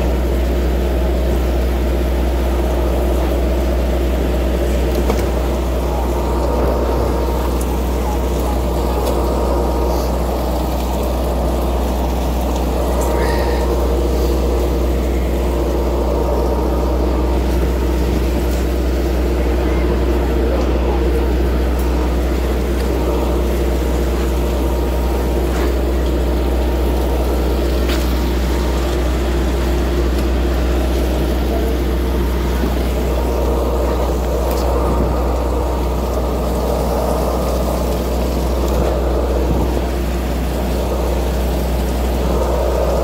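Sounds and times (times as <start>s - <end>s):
ship engine drone: 0.0s - 43.0s.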